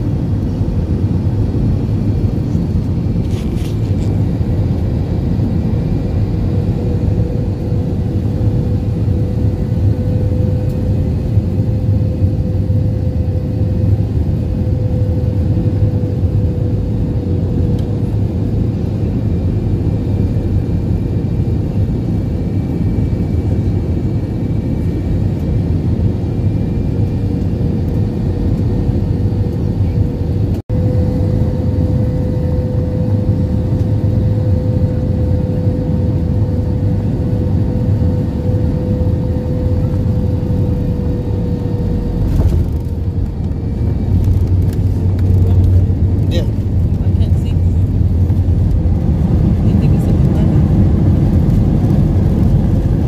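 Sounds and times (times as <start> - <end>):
engine and airflow rumble: 0.0 - 53.0.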